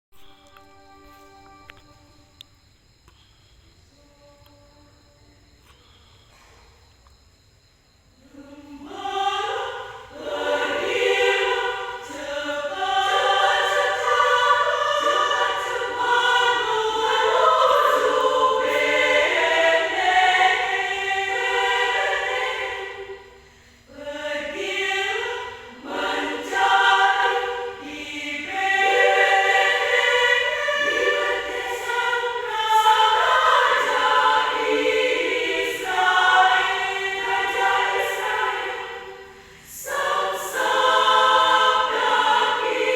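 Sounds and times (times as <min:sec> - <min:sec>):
women's choir singing: 0:08.2 - 0:42.9.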